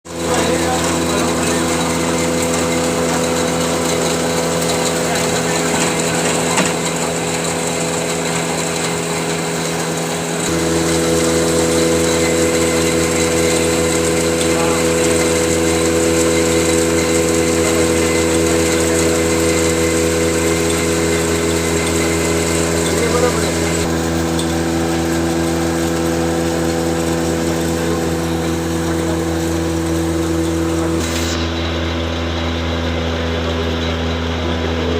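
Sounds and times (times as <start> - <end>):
grinder humming: 0.1 - 34.9.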